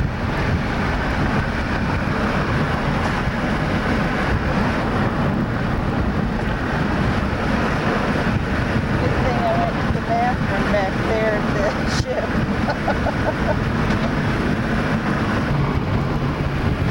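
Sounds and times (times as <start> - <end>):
vehicle road noise: 0.0 - 16.9
wind rushing over microphone: 0.0 - 16.9.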